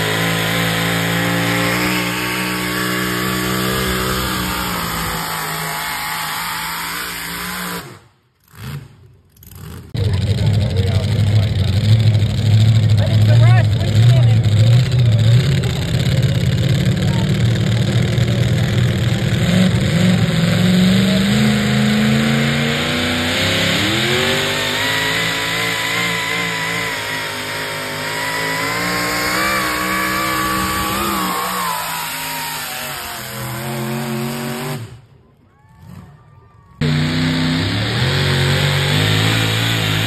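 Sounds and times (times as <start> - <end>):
pulling truck engine running hard: 0.0 - 8.9, 9.5 - 40.0.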